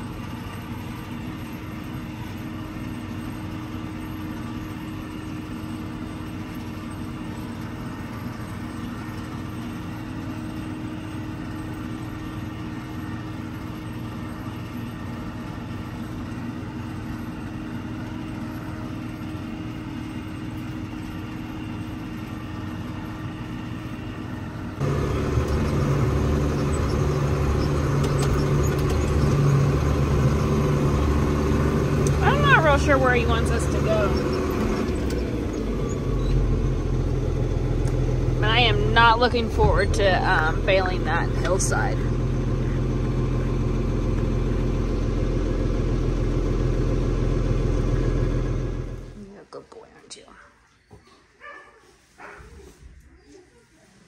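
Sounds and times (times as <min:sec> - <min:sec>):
tractor engine running under load: 0:00.0 - 0:49.2
deep engine inside tractor cab: 0:00.0 - 0:50.3.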